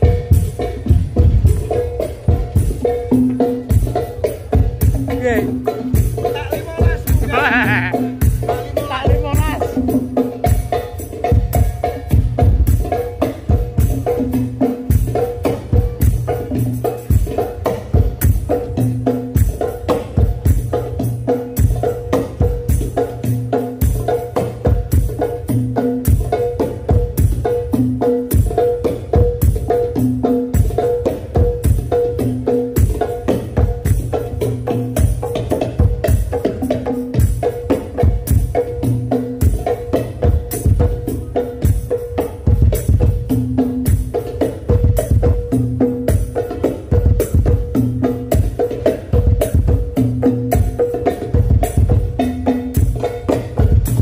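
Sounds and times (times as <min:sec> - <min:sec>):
hand drums played fast: 0:00.0 - 0:54.0.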